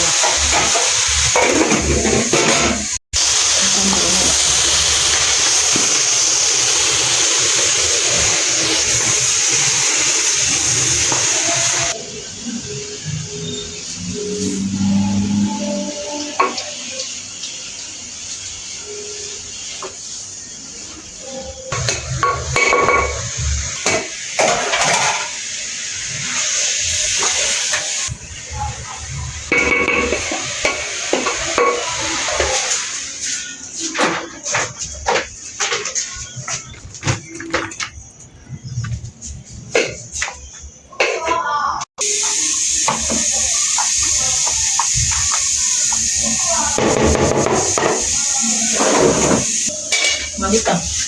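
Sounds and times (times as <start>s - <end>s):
food sizzling in frying pan: 0.0s - 38.1s, 42.0s - 51.0s.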